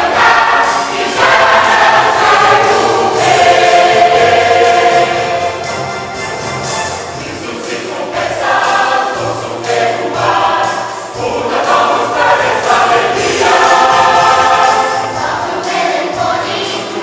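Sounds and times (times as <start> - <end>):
choir singing a christmas song: 0.0 - 17.0
church choir singing: 0.0 - 17.0
instrumental accompaniment: 0.0 - 17.0.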